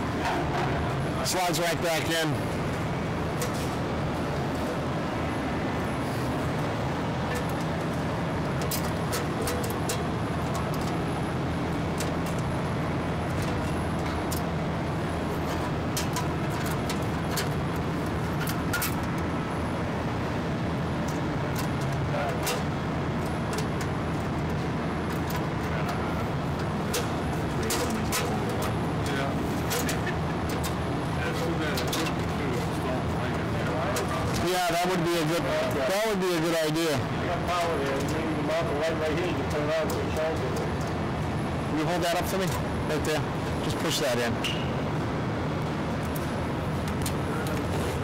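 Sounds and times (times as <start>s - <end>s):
air blowers droning: 0.0s - 48.0s
constant low hum: 0.0s - 48.0s.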